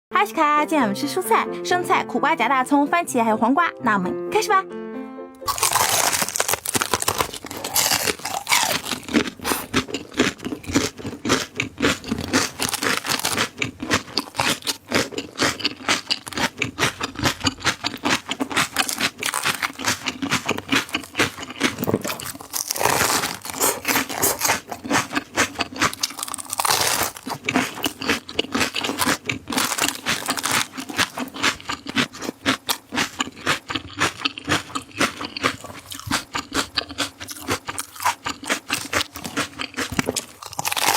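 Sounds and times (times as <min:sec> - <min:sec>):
crunching raw vegetables: 0:05.4 - 0:40.9.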